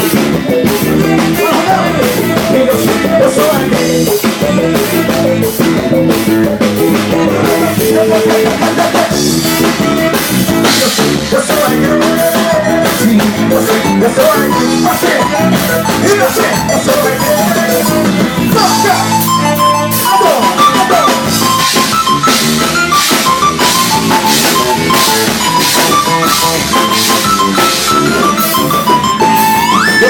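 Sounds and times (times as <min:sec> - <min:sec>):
drum kit steady beat: 0:00.0 - 0:30.0
gospel band playing: 0:00.0 - 0:30.0.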